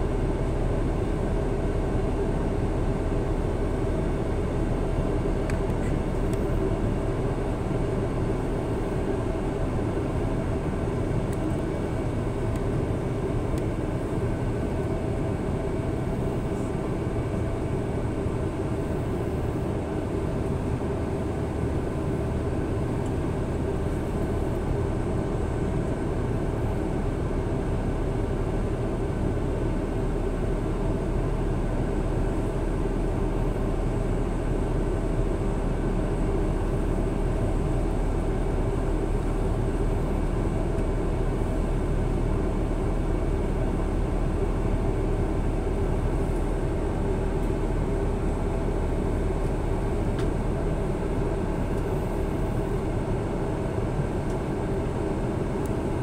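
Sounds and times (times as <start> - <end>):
jet engines in flight: 0.0 - 56.0.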